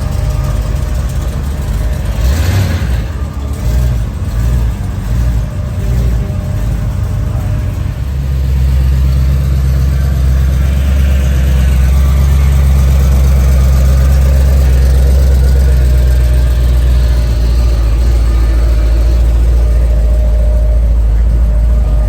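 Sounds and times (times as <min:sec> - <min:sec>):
car engine running loud: 0:00.0 - 0:22.0.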